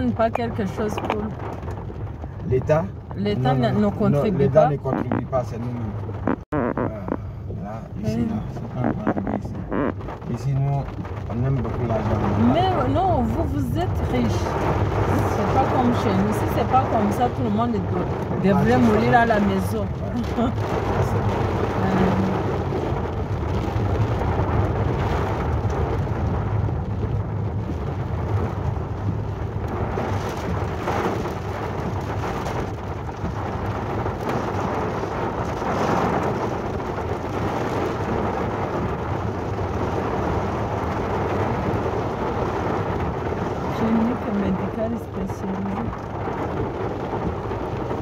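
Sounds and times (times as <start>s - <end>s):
heavy rain drumming on car roof: 0.0s - 48.0s
moving car low rumble: 0.0s - 48.0s.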